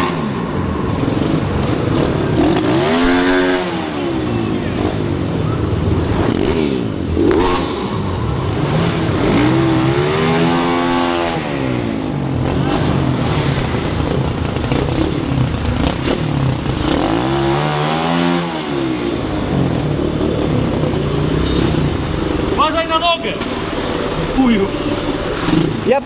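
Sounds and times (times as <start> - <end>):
bike engine revving past: 0.0 - 26.0
pit bike engines droning: 0.0 - 26.0.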